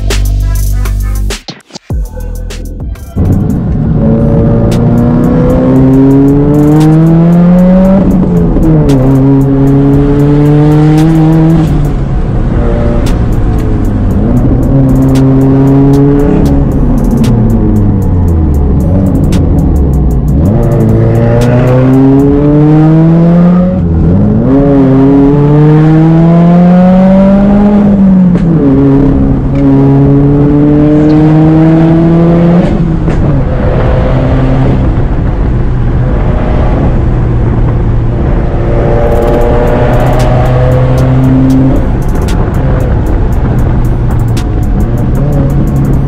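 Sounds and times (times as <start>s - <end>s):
car engine accelerating: 1.9s - 46.0s.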